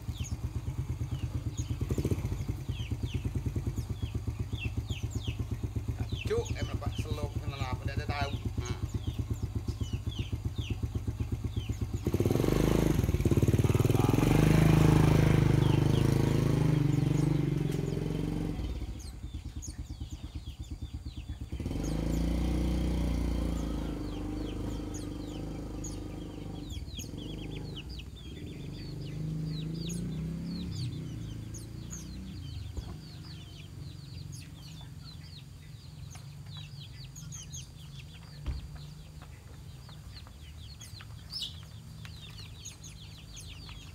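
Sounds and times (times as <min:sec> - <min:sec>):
small birds chirping: 0:00.0 - 0:43.9
small engine idling: 0:00.0 - 0:43.9.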